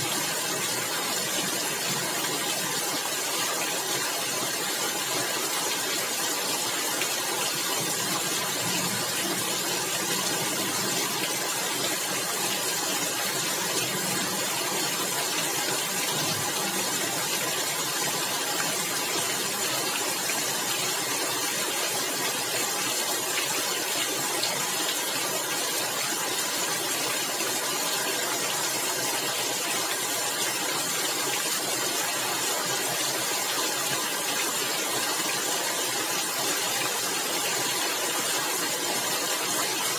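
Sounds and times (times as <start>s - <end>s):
rain on tiled roof: 0.0s - 39.9s.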